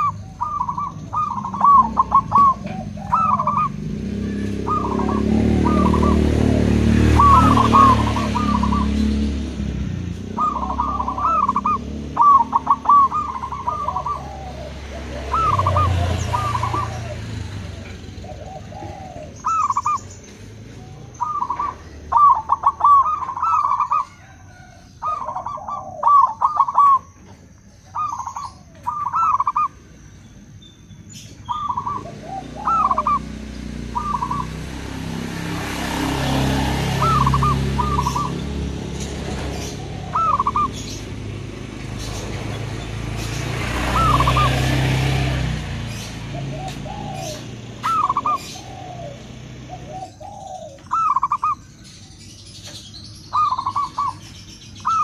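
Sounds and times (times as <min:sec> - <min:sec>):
doves cooing: 0:00.0 - 0:29.9, 0:31.2 - 0:55.0.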